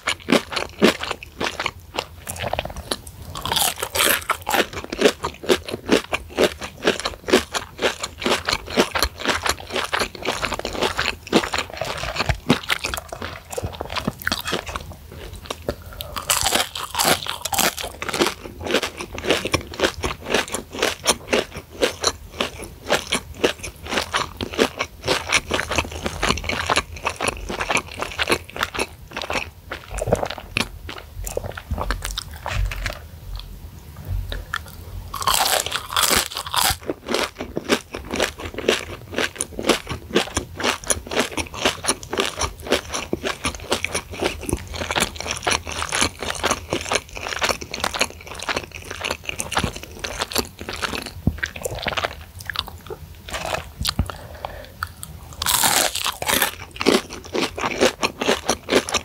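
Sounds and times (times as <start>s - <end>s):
crunchy chewing: 0.0s - 33.5s, 34.3s - 59.0s.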